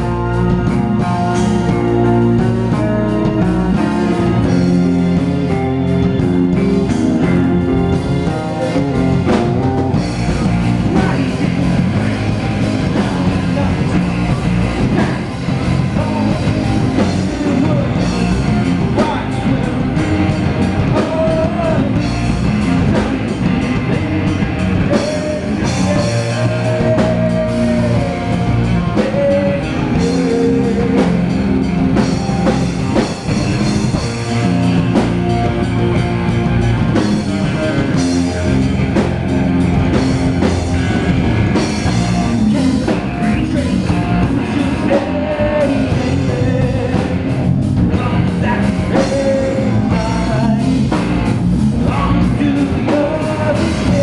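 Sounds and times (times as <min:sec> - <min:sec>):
drum kit: 0:00.0 - 0:54.0
electric guitar: 0:00.0 - 0:54.0.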